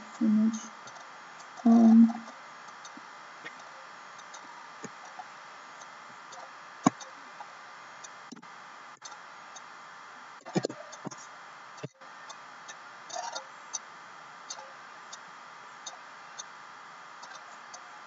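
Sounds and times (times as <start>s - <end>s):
low hiss: 0.0s - 18.0s.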